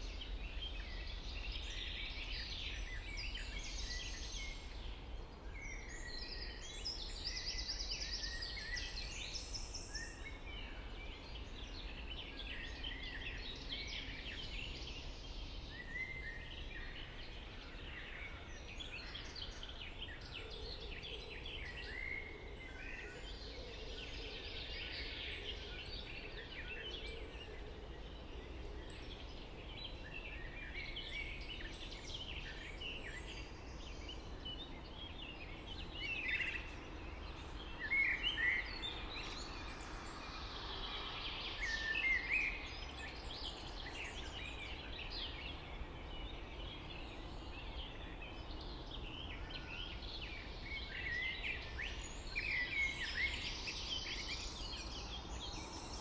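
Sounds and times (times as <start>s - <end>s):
low background noise: 0.0s - 56.0s
songbirds singing: 0.0s - 56.0s.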